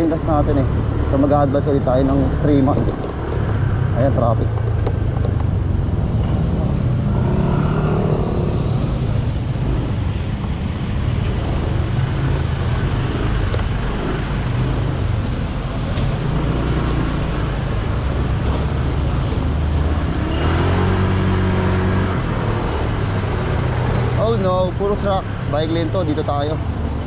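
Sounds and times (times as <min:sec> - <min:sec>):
surrounding traffic: 0:00.0 - 0:27.0
wind and road noise: 0:00.0 - 0:27.0.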